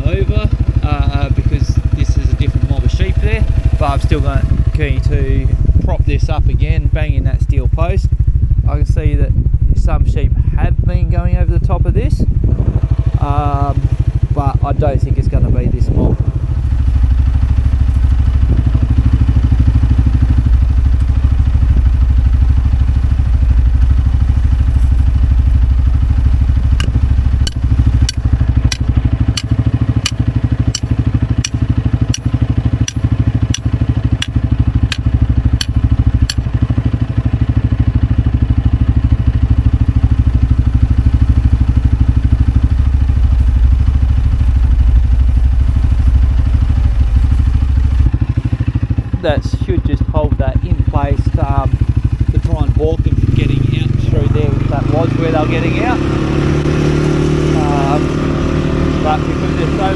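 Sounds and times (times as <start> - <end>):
engine idling rumble: 0.0 - 59.9.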